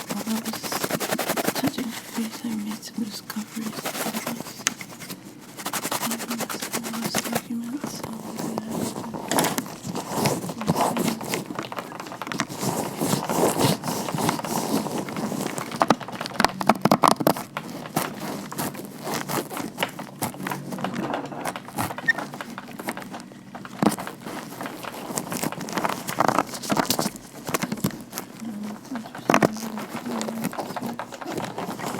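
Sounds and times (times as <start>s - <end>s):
gloves rustling and crackling: 0.0s - 31.9s.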